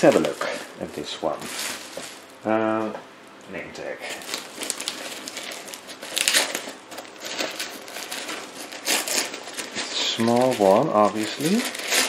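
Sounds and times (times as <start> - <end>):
paper and bubble wrap crinkling: 0.0 - 2.4, 4.0 - 12.0.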